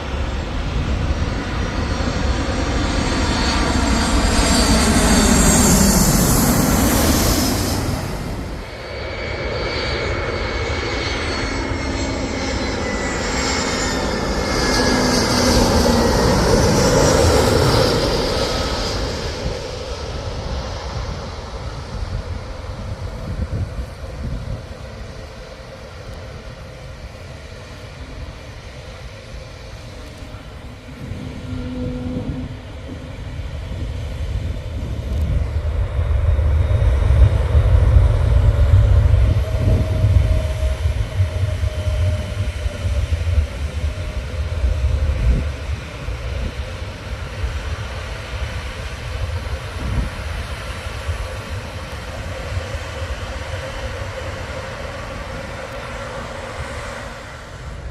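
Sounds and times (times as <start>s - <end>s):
jet airliner passing overhead: 0.0s - 57.9s.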